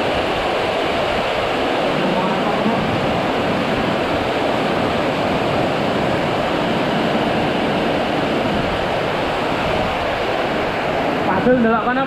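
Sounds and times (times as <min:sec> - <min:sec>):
heavy rain pouring: 0:00.0 - 0:12.0
strong wind: 0:00.0 - 0:12.0.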